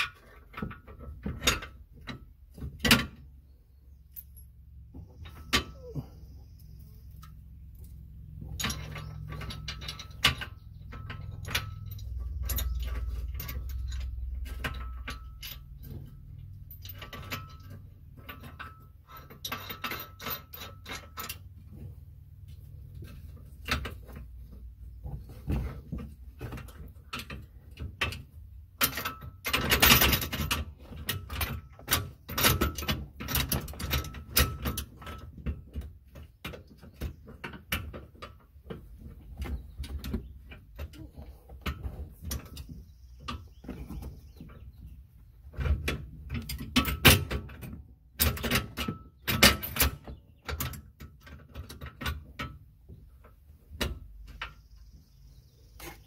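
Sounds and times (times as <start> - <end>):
metal clanks and scraping: 0.0 - 56.0.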